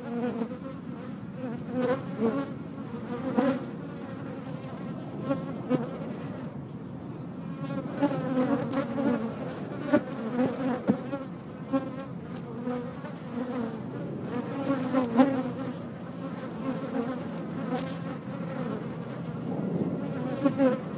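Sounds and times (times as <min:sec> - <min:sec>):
bees buzzing: 0:00.0 - 0:20.9.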